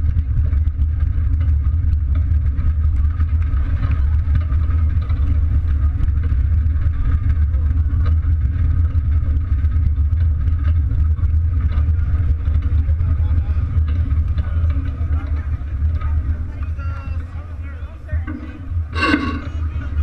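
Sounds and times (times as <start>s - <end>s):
wheels rumbling over asphalt: 0.0s - 20.0s
faint crowd voices: 2.6s - 20.0s.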